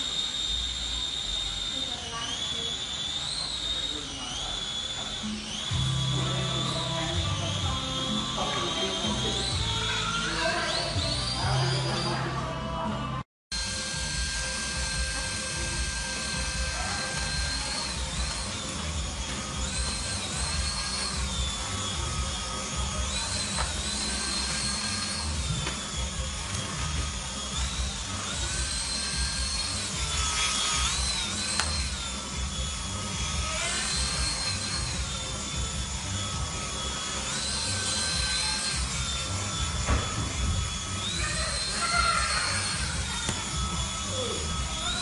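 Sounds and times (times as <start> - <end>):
toy propeller motor whining: 0.0 - 45.0.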